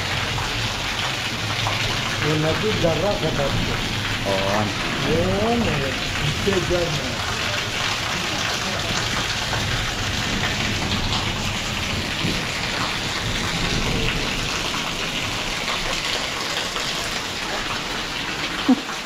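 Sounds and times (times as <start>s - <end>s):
heavy rain splashing on water: 0.0s - 19.0s.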